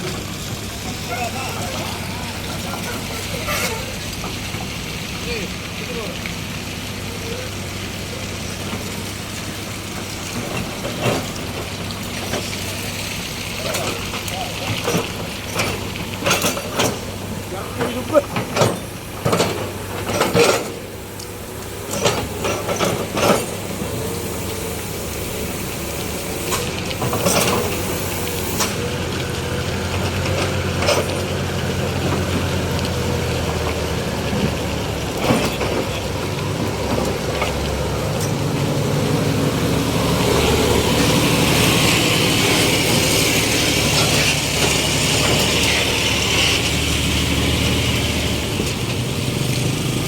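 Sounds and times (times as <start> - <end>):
heavy vehicle engine running: 0.0 - 50.0.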